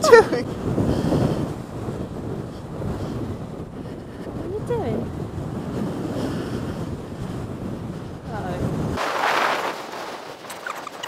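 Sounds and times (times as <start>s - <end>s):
surf on beach: 0.0s - 11.0s
wind buffeting microphone: 0.0s - 11.0s.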